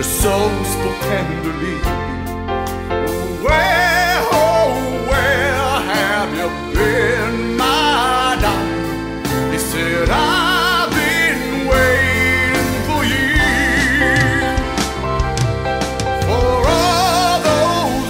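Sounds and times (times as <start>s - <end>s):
ballad with singer: 0.0s - 18.0s.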